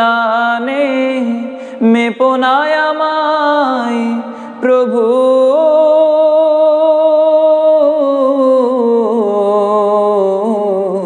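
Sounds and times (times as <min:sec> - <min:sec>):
man singing a long note: 0:00.0 - 0:11.0.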